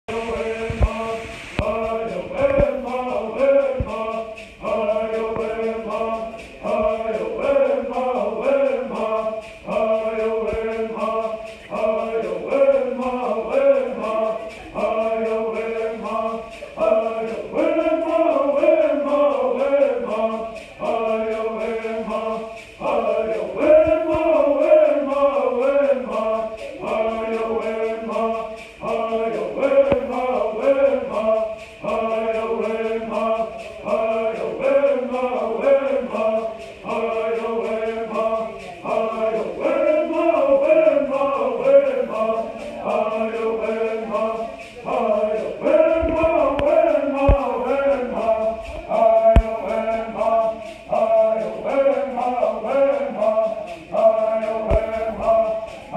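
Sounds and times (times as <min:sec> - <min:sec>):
men singing in unison: 0:00.0 - 0:55.9
gourd rattles shaking: 0:01.7 - 0:55.9.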